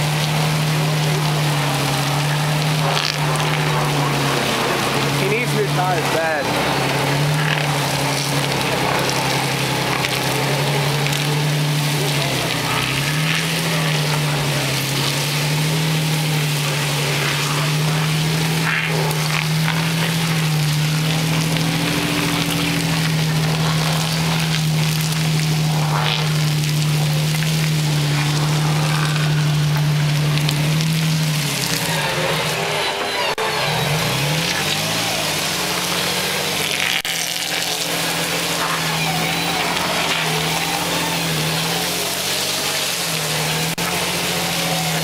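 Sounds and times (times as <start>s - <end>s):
off-road vehicle engine running: 0.0s - 45.0s.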